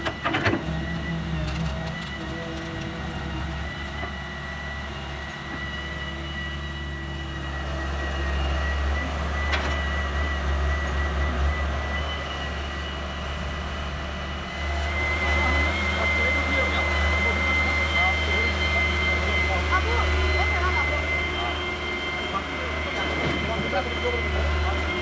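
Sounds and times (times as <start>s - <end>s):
heavy machinery engine running: 0.0s - 25.0s.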